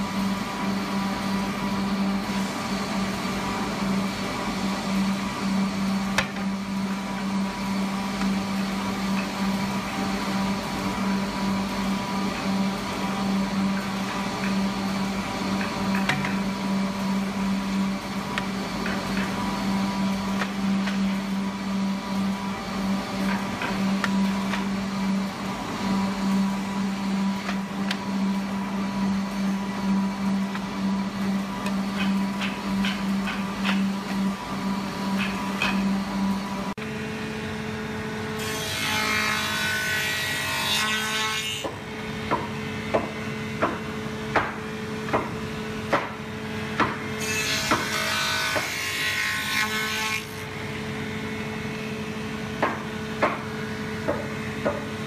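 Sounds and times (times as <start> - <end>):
benchtop woodworking machine humming: 0.0 - 55.0
drum sander humming: 0.0 - 55.0.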